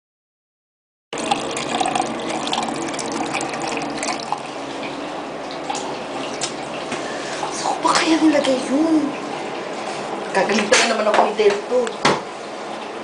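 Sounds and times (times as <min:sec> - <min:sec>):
running water: 0:01.2 - 0:13.0.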